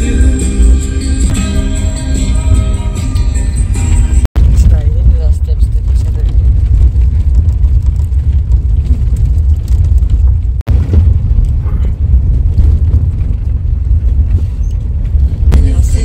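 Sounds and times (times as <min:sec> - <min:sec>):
van interior road rumble: 0:00.0 - 0:16.0.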